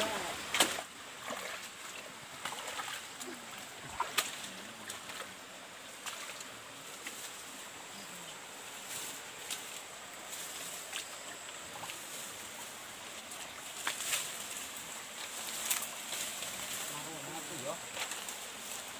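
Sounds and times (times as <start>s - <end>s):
footsteps sloshing through stream: 0.0s - 18.9s
running water rushing: 0.0s - 18.9s.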